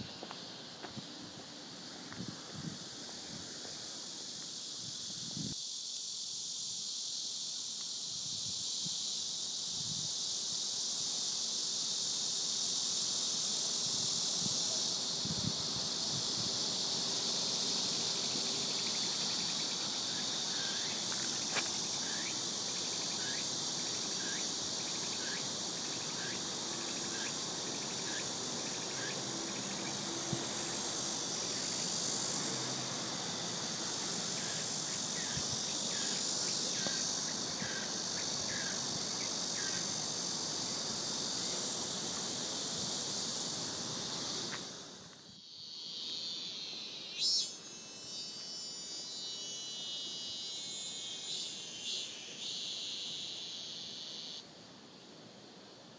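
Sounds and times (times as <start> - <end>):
insects chirping chorus: 0.0 - 55.9.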